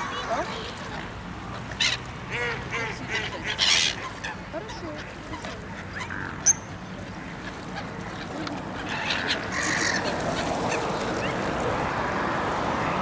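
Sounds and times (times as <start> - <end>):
waterbirds calling: 0.0 - 12.2.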